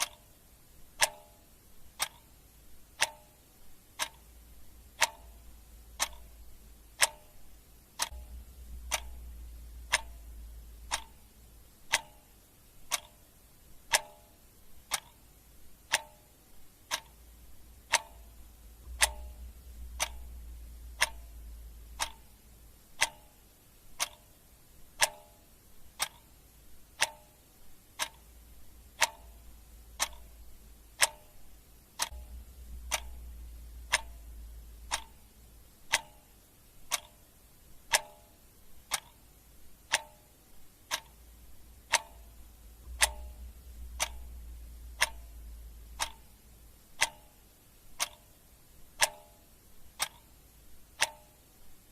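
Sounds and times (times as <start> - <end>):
clock ticking: 0.0 - 51.9
faint low hum: 0.0 - 51.9.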